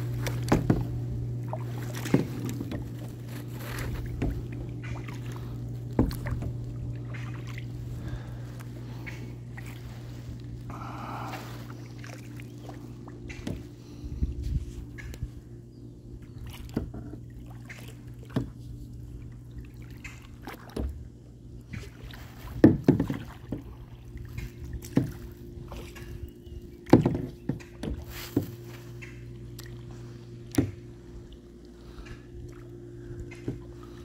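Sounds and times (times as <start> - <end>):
boat motor humming: 0.0 - 34.0
water sloshing against hull: 0.0 - 34.0.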